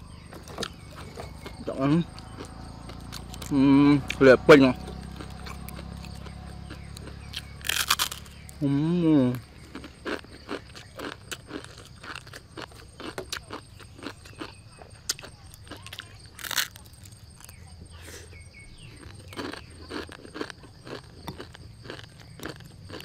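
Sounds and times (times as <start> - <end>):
dry noodles crunching: 0.2 - 17.6, 18.7 - 23.0.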